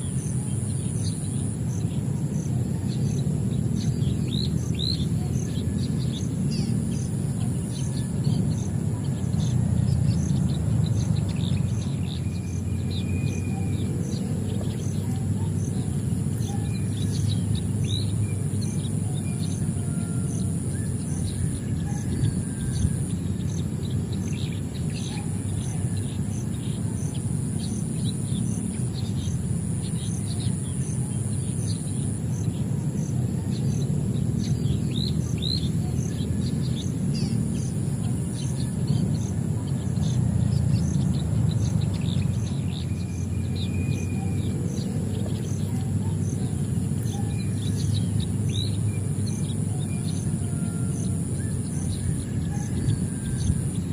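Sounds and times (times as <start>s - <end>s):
birds chirping: 0.0s - 53.9s
continuous high buzz: 0.0s - 53.9s
steady low rumble: 0.0s - 53.9s.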